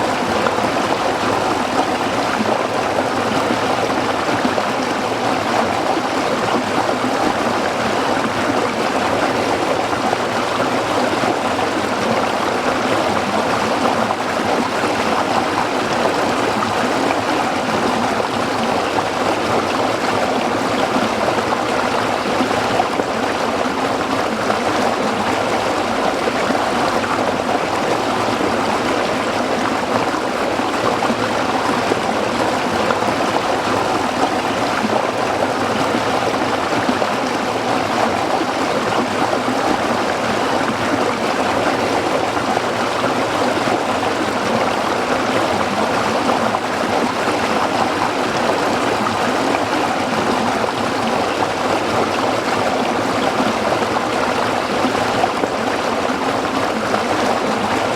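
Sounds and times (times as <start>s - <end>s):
stream burbling over rocks: 0.0s - 57.9s.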